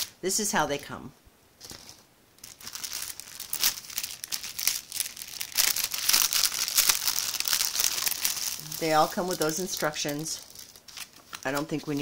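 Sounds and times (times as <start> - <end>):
plastic packaging crinkling: 0.0 - 0.2, 1.6 - 12.0.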